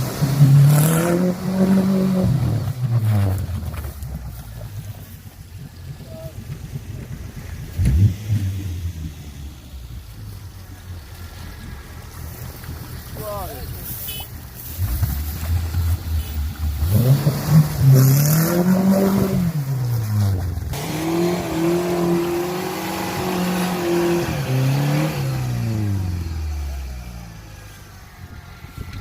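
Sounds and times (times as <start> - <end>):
off-road vehicle engine revving: 0.0 - 5.0, 5.6 - 10.1, 14.7 - 29.0.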